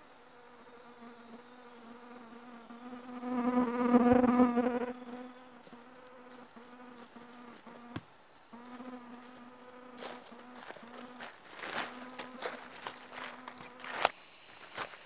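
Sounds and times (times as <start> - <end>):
flying insect buzzing: 0.0 - 15.0.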